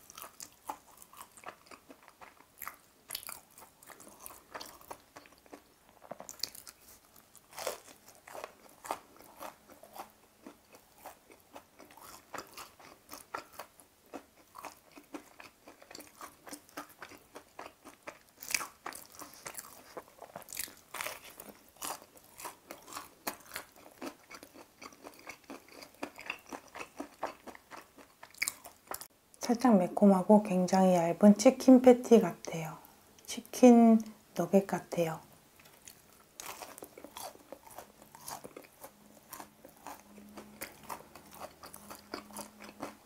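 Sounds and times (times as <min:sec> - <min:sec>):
crisp fried food crunching: 0:00.0 - 0:29.1, 0:35.6 - 0:43.0.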